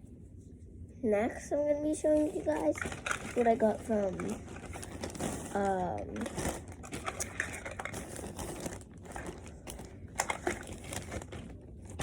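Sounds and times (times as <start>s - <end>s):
plastic packaging crinkling: 2.1s - 12.0s.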